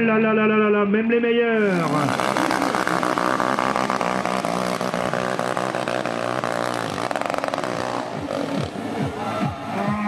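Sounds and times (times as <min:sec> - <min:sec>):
motocross engines revving high: 0:01.6 - 0:10.0.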